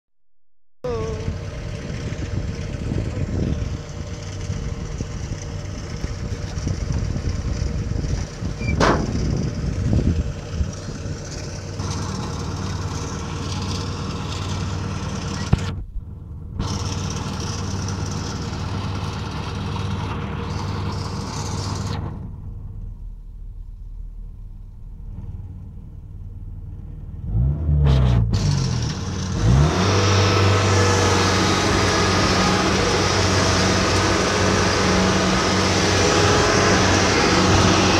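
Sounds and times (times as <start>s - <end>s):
diesel engine running: 0.8s - 37.9s.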